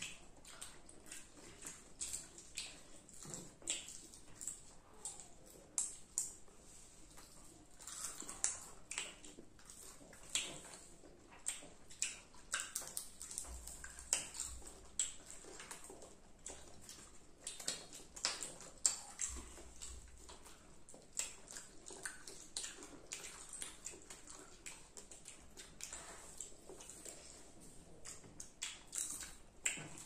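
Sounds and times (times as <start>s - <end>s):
children chewing food: 0.0s - 30.0s.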